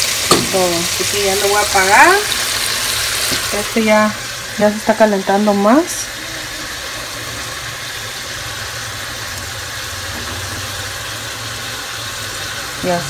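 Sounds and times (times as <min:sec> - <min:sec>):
stove burner humming and hissing: 0:00.0 - 0:13.0.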